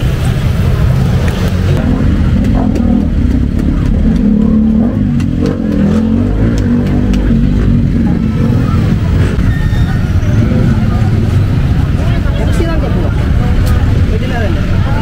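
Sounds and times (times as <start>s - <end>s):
street traffic rumble: 0.0s - 15.0s
vehicle engine running: 0.0s - 15.0s.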